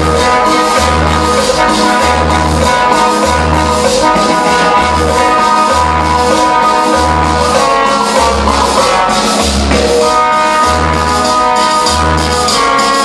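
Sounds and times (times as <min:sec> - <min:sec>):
loud cumbia music: 0:00.0 - 0:13.0.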